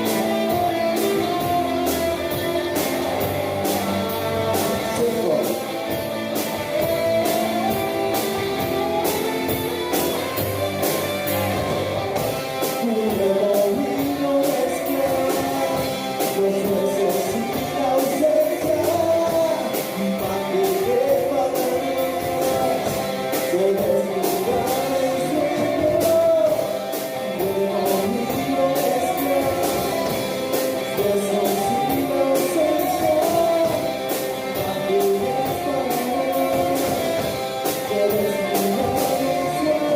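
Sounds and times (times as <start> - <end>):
electric guitars: 0.0 - 39.9
person singing: 0.0 - 39.9
steady drum beat: 0.0 - 39.9.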